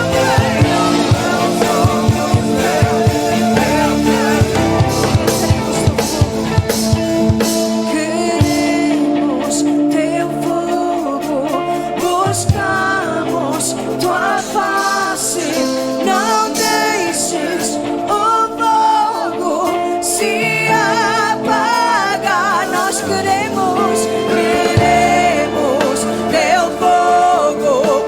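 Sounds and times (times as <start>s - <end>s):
person singing long wordless notes: 0.0s - 28.0s
sustained keyboard chords: 0.0s - 28.0s.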